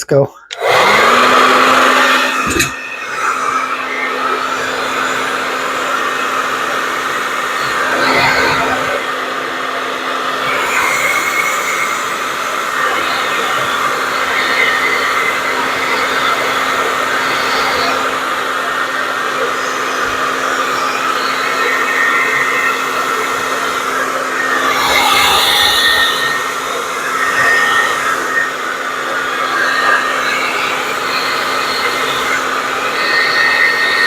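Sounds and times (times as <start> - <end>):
blow dryer running: 0.5 - 34.0.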